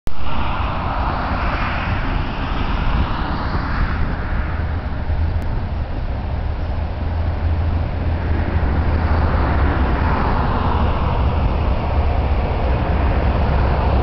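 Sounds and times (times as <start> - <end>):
rushing noise: 0.1 - 14.0
steady low rumble: 0.1 - 14.0.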